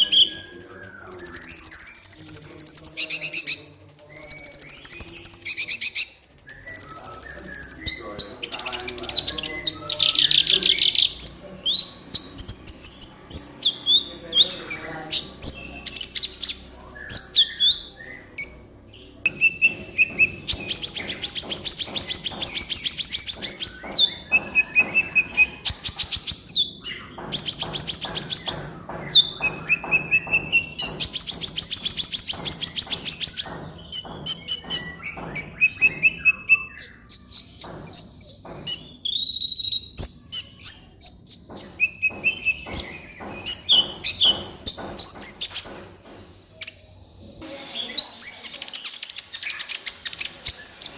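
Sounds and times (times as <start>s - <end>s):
rapid high bird trills: 0.0s - 45.6s
sunbird chirping: 0.0s - 45.7s.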